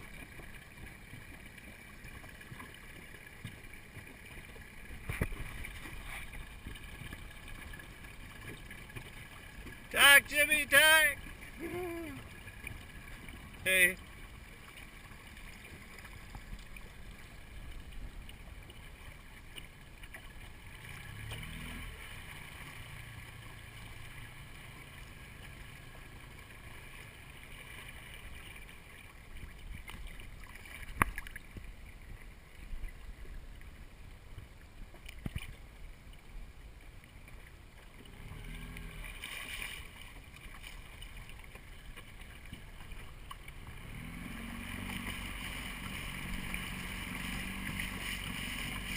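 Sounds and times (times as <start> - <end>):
water lapping against hull: 0.0 - 48.9.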